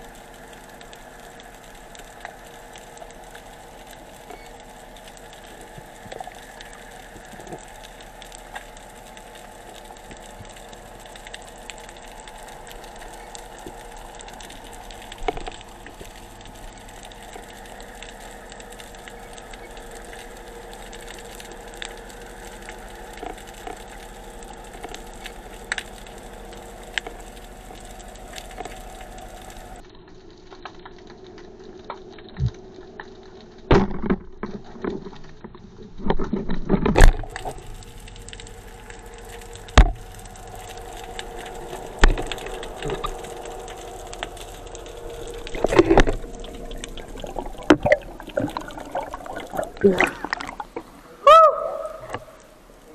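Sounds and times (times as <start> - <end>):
underwater crackling hiss: 0.0 - 29.8, 37.2 - 52.9.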